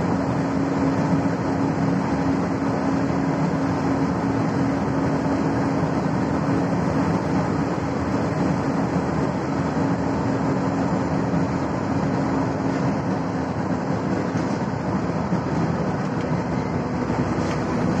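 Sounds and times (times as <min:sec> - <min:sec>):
car engine: 0:00.0 - 0:18.0
tyre road noise: 0:00.0 - 0:18.0.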